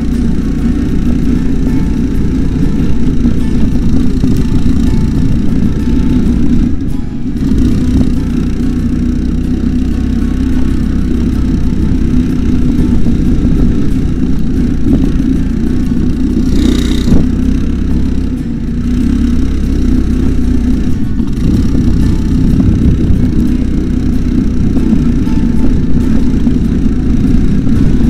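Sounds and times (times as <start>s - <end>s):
single-cylinder engine running: 0.0s - 28.0s.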